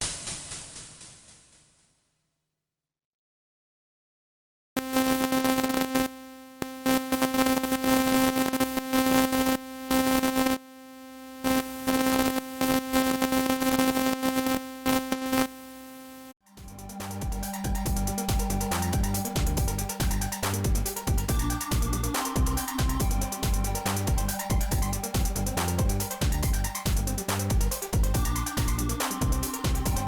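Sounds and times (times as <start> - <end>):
glitchy synthesizer buzz: 4.8 - 30.0.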